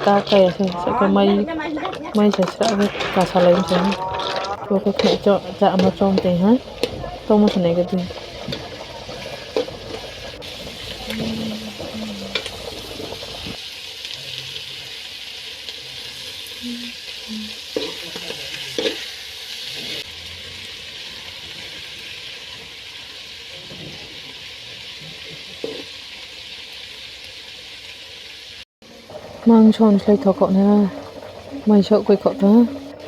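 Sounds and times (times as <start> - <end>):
clams sizzling in a pan: 0.0 - 33.0.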